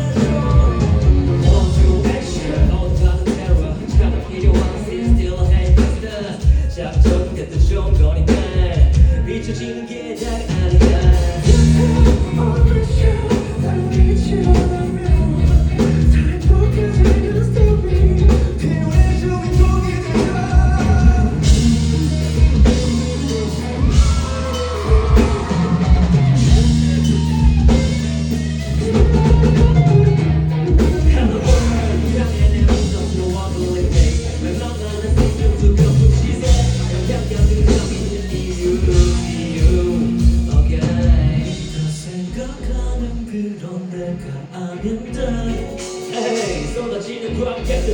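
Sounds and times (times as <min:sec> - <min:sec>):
drum kit: 0:00.0 - 0:09.4, 0:10.2 - 0:43.0, 0:45.6 - 0:47.0
bass guitar: 0:00.0 - 0:47.9
electric guitar: 0:00.0 - 0:47.9
person singing: 0:00.0 - 0:47.9.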